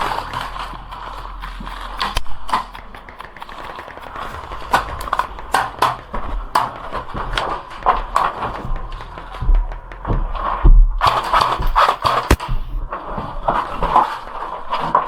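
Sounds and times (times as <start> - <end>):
footsteps on hard surface: 0.0 - 14.1
faint low hum: 0.0 - 14.5.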